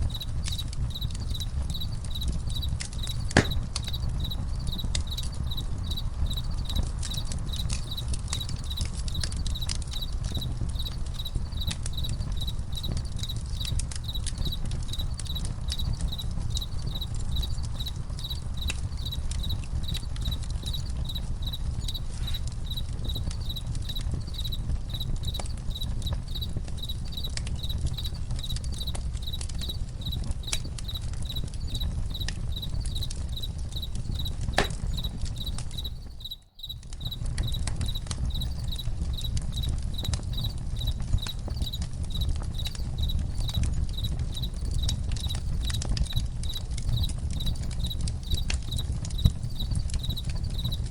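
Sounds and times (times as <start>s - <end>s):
campfire crackling and popping: 0.0s - 50.9s
crickets chirping: 0.0s - 50.9s.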